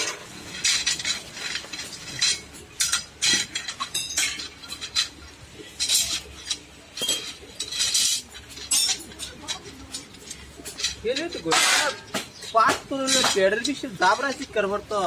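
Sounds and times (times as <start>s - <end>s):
metal strips clinking together: 0.0s - 15.0s.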